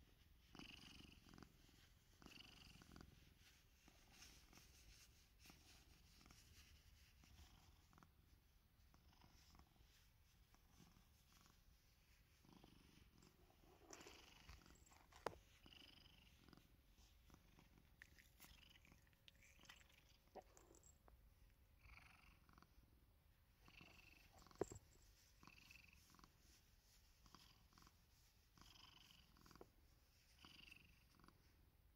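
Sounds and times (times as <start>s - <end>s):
cat purring: 0.0s - 31.9s.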